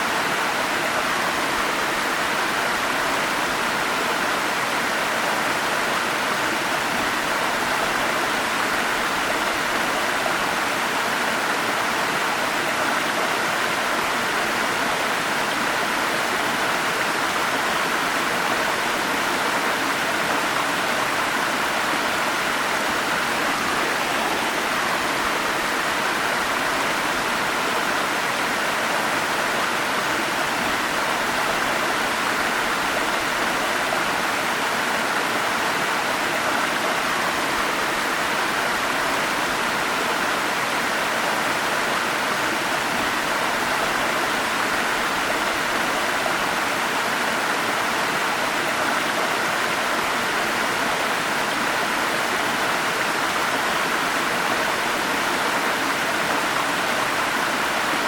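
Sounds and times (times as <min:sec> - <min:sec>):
water flowing over rocks: 0:00.0 - 0:58.0.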